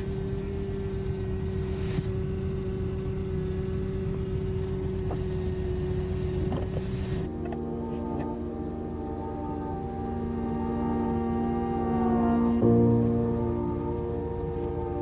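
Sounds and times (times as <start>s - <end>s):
steady humming tone: 0.0s - 15.0s
vehicle engine rumbling: 0.0s - 15.0s.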